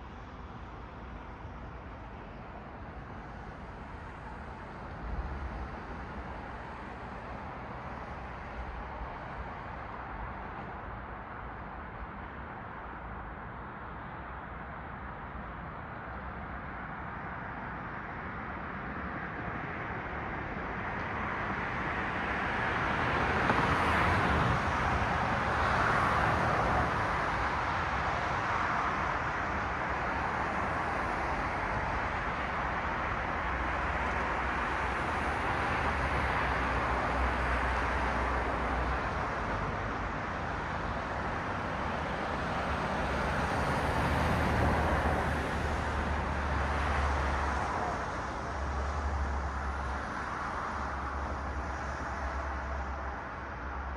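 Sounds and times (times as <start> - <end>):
cars passing on street: 0.0 - 53.9.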